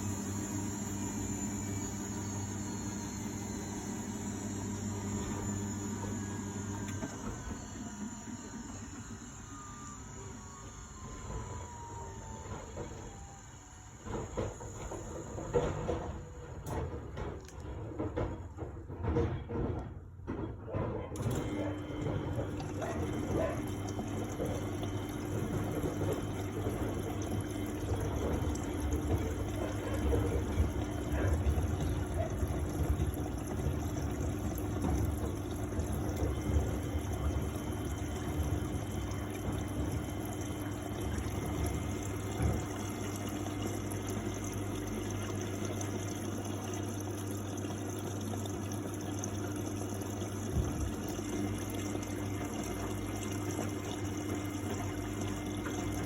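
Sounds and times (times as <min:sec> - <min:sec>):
pump hum: 0:00.0 - 0:56.0
water sloshing in washing machine: 0:00.0 - 0:56.0.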